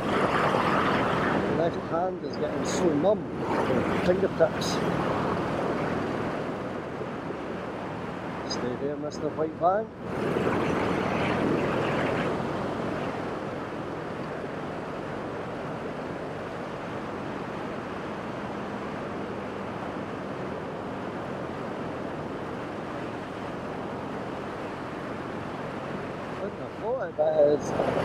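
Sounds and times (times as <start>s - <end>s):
wind rush on microphone: 0.0s - 28.0s.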